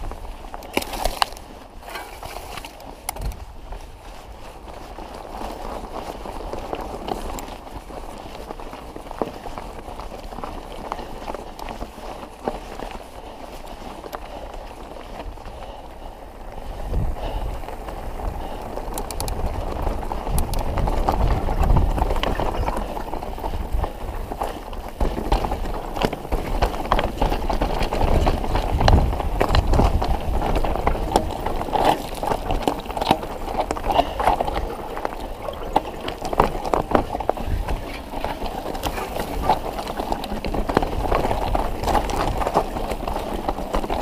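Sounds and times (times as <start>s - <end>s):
bike chain and frame rattling: 0.0s - 16.0s, 16.6s - 44.0s
bike tyres crunching on stones: 0.0s - 44.0s.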